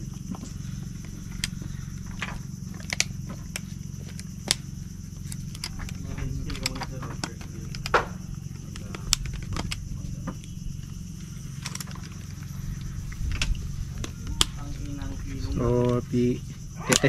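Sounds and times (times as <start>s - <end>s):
high insect buzz: 0.0s - 17.0s
steady low hum: 0.0s - 17.0s.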